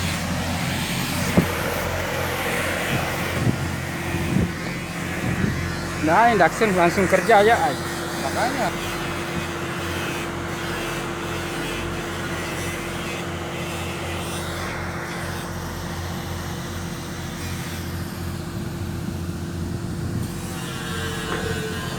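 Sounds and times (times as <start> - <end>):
welding machine hum: 0.0 - 21.9.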